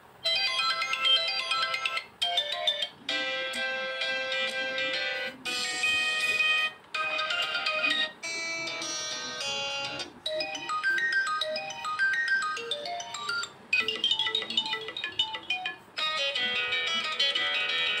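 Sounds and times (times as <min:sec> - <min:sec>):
phone ringtone melodies: 0:00.2 - 0:18.0.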